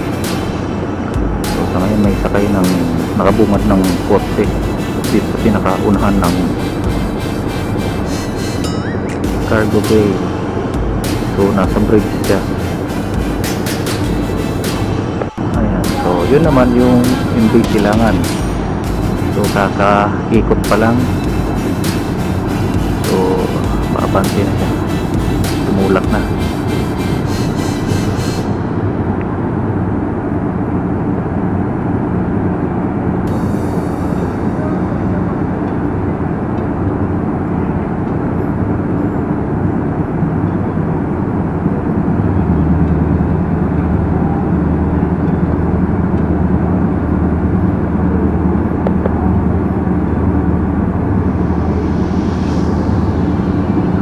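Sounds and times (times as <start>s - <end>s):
ship diesel engines humming: 0.0s - 54.0s.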